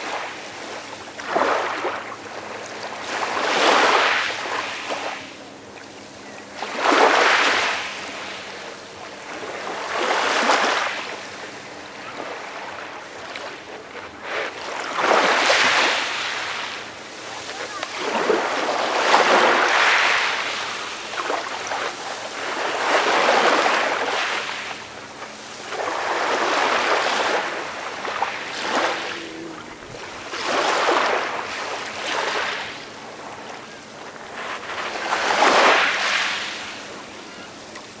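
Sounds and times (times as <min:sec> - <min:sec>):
calm ocean waves washing ashore: 0:00.0 - 0:38.0.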